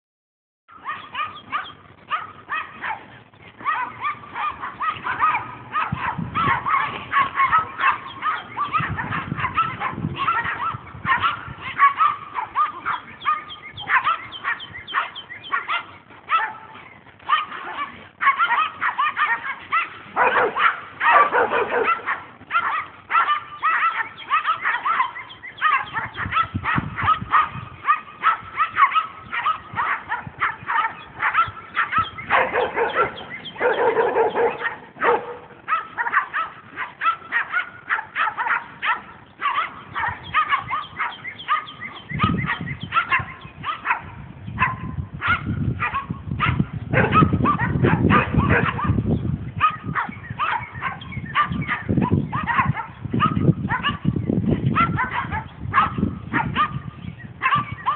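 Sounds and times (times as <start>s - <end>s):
lower-pitched dog bark or howl: 0.7s - 57.9s
small dogs barking rapidly: 0.7s - 57.9s.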